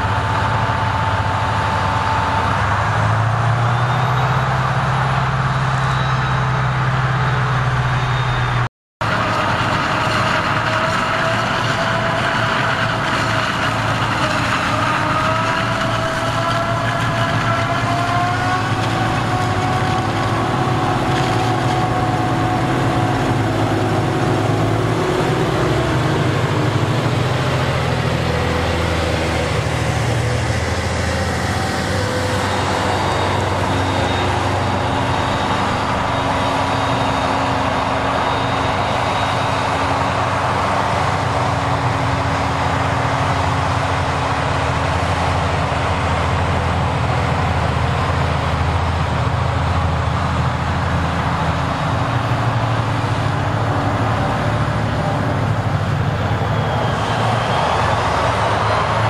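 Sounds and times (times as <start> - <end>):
forage harvester engine: 0.0 - 59.0
tractor engine running: 0.0 - 59.0.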